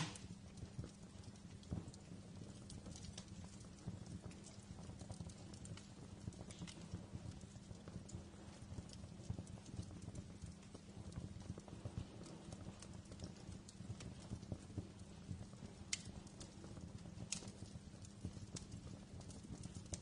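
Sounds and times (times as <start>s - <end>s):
fireplace flames rumbling: 0.0s - 20.0s
wood fire popping and snapping: 0.0s - 20.0s.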